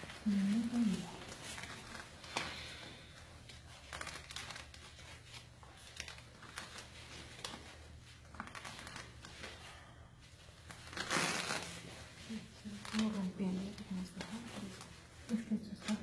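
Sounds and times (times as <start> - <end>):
wrapping crinkling and rustling: 0.0 - 16.0.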